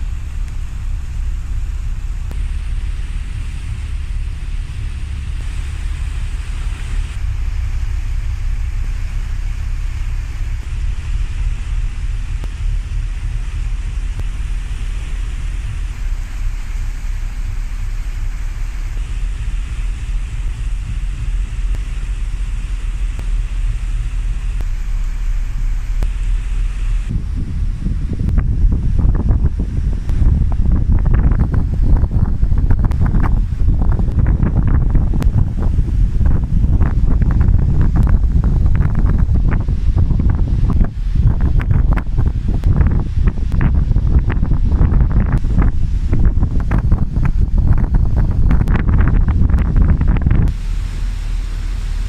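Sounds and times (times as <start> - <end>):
wind buffeting microphone: 0.0 - 50.8
low rumble of ship and sea: 0.0 - 52.0.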